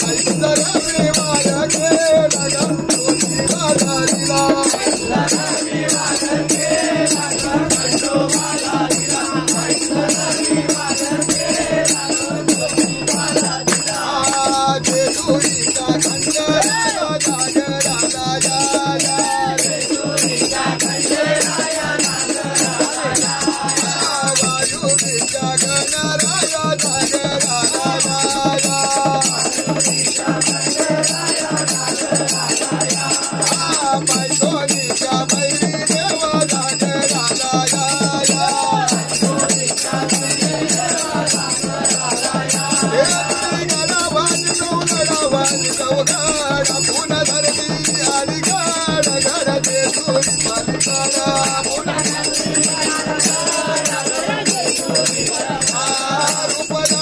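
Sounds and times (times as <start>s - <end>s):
hand drum beat: 0.0s - 57.0s
man singing devotional song: 0.0s - 57.0s.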